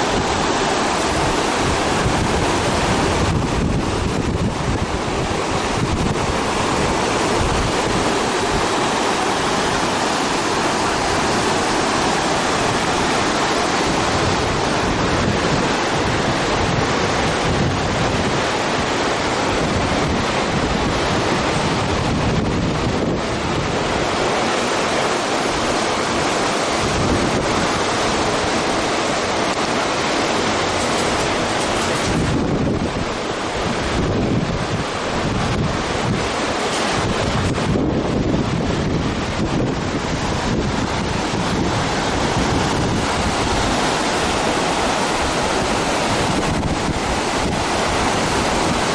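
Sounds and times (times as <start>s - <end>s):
whitewater rapids rushing: 0.0s - 48.9s.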